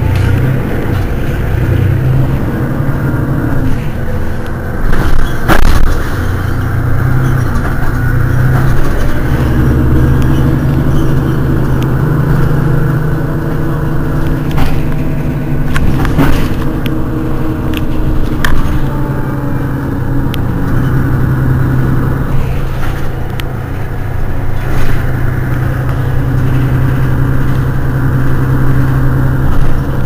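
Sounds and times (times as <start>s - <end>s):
bus engine idling: 0.0s - 30.0s.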